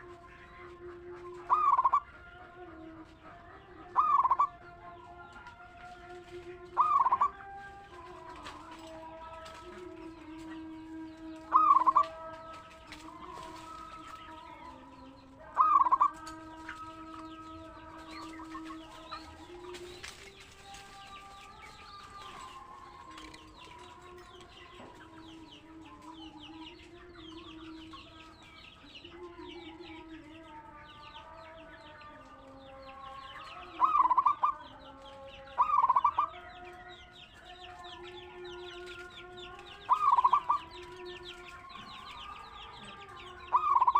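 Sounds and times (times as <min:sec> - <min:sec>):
chickens clucking: 0:00.0 - 0:43.9
doves calling: 0:00.0 - 0:43.9
small birds chirping: 0:00.0 - 0:43.9.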